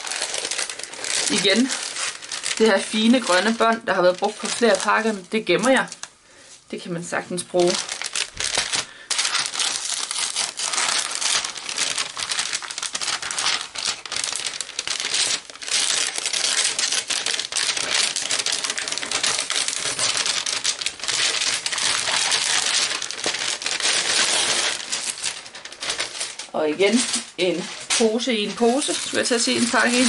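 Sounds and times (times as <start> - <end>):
wrapping paper rustling: 0.0 - 30.0.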